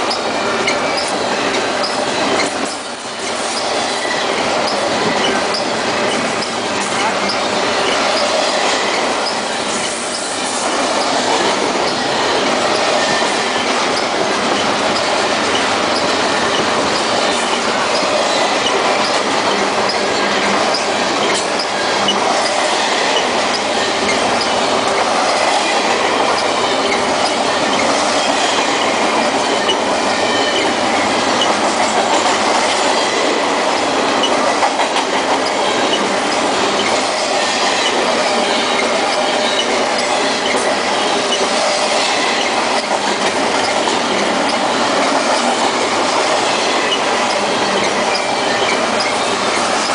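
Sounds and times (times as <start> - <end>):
high wheel squeal: 0.0 - 34.6, 35.3 - 49.9
clacking over rail joints: 0.0 - 49.9
steel wheels rolling on rail: 0.0 - 49.9.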